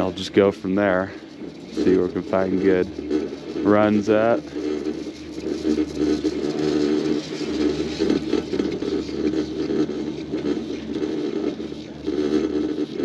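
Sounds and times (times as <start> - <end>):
chairlift whirring hum: 0.0 - 13.0.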